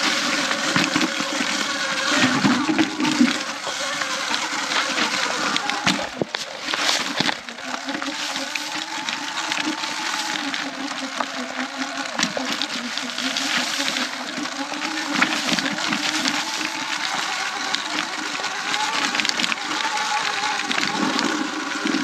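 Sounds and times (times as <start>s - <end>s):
electric motor whine: 0.0s - 22.0s
sharp crackles and clicks: 0.0s - 22.0s
tyres rushing on dirt trail: 0.0s - 22.0s.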